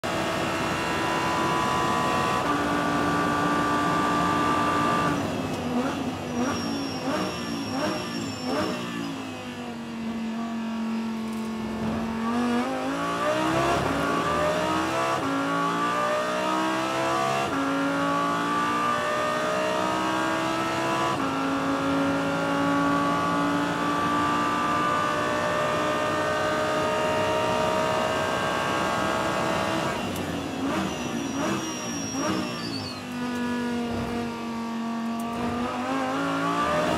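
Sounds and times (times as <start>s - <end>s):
racing car engine revving: 0.1s - 9.3s, 9.9s - 36.9s.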